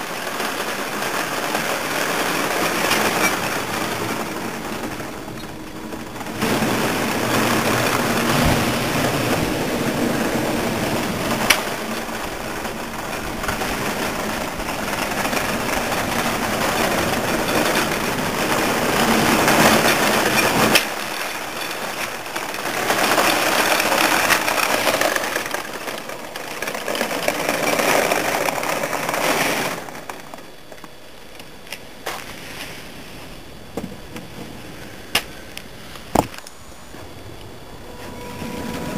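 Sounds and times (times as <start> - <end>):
tank tracks rattling: 0.0 - 32.3
toy tank drive whirring: 0.1 - 31.8.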